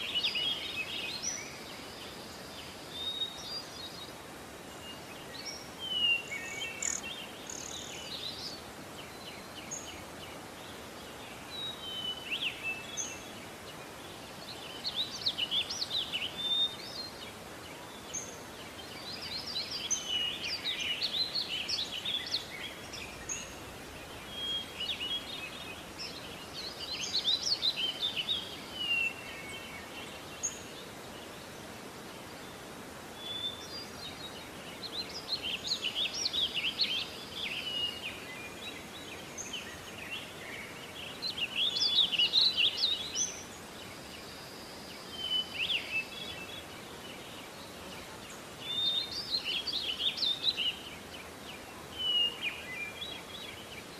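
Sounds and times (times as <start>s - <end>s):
small birds chirping: 0.0s - 53.9s
steady background hiss: 0.0s - 53.9s.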